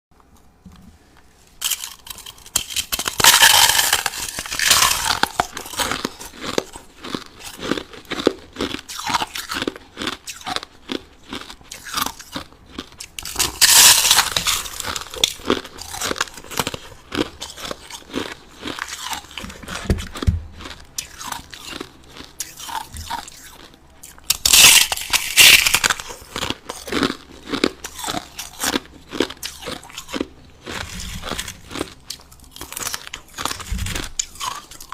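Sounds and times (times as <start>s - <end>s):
person chewing crushed ice: 1.6s - 34.9s.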